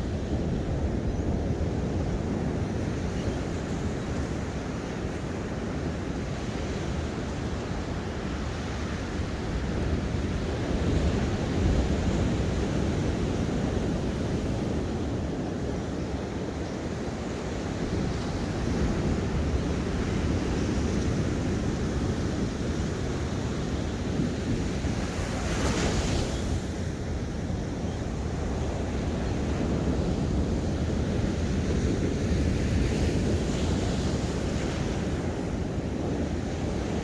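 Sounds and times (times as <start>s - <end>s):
ocean waves washing onto shore: 0.0s - 37.0s
wind on microphone: 0.0s - 37.0s.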